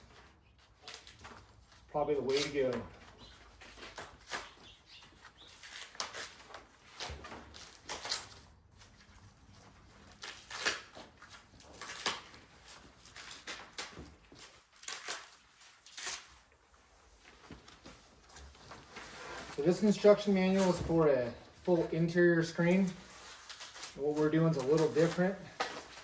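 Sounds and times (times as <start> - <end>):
paper pages turning: 0.0 - 16.5, 17.1 - 26.0.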